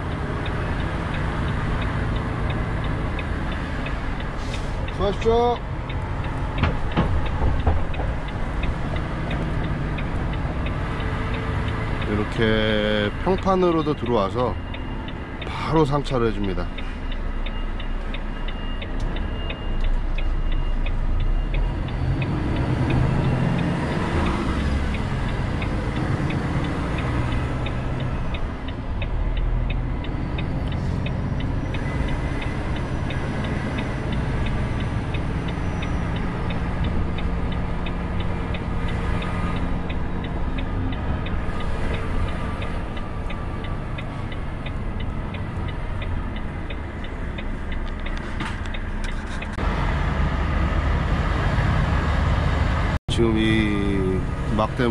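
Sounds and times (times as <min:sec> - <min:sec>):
dashboard indicator ticking: 0:00.1 - 0:22.3, 0:24.9 - 0:49.6.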